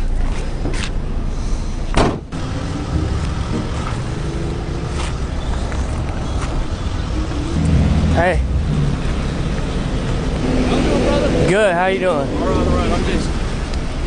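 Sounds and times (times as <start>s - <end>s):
car engine running: 0.1s - 14.0s.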